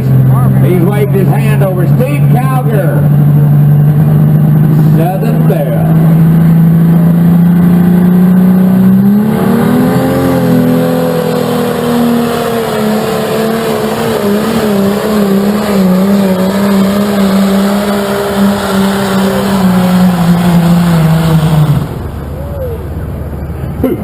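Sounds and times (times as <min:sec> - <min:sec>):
tractor engine at full throttle: 0:00.0 - 0:24.0.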